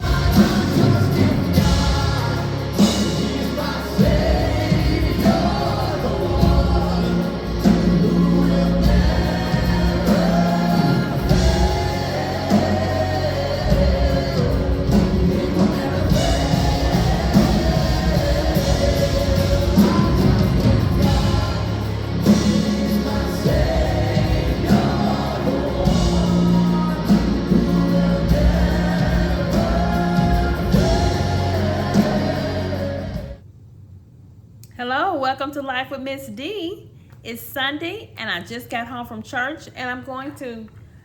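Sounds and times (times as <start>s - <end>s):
gospel song with band: 0.0s - 33.5s.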